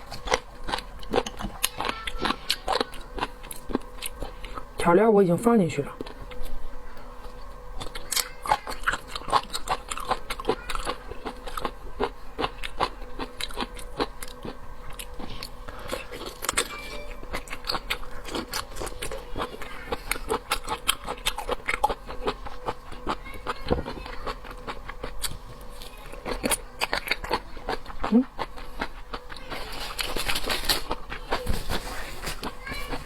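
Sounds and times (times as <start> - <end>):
person chewing and crunching food: 0.0 - 33.0.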